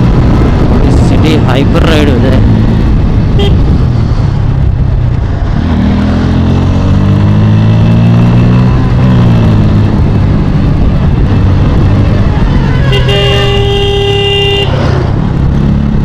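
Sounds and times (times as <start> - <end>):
wind rush over microphone: 0.0 - 16.0.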